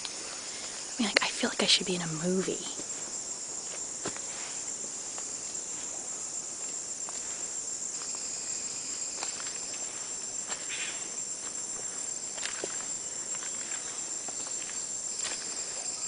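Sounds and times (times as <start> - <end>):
insects droning high-pitched: 0.0 - 16.0.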